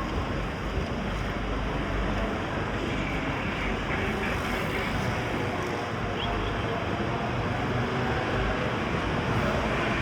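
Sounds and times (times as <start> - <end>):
continuous rushing noise: 0.0 - 10.0.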